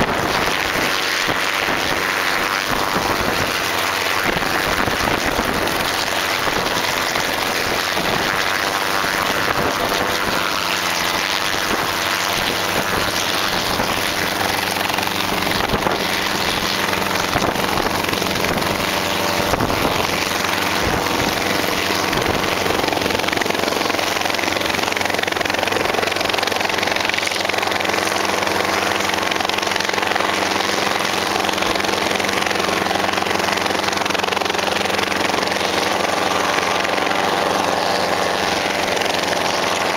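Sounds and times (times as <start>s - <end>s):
helicopter engine tones: 0.0s - 39.9s
helicopter rotor chop: 0.0s - 39.9s.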